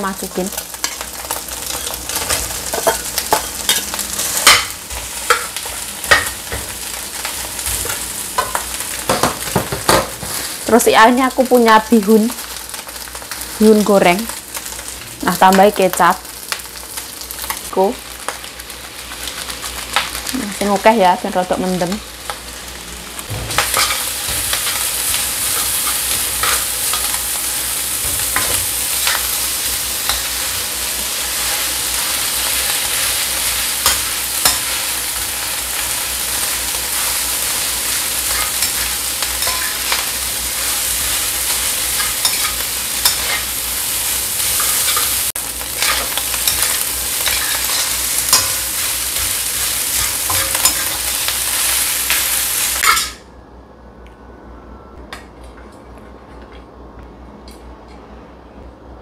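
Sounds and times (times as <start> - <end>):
fried rice sizzling in a wok: 0.0 - 53.2.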